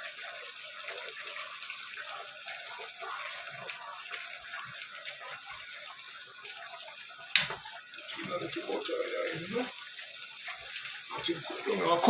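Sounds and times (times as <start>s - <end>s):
fish sizzling and bubbling in pot: 0.0s - 12.0s.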